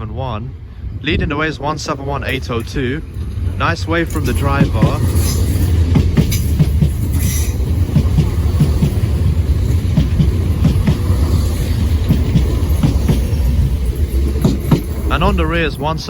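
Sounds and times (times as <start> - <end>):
diesel train rumbling: 0.0 - 16.0
train wheels clicking over rail joints: 2.1 - 16.0.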